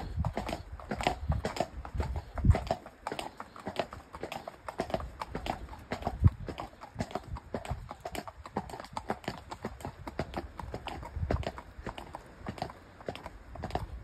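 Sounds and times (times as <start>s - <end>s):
horse hoofbeats on pavement: 0.0s - 14.0s.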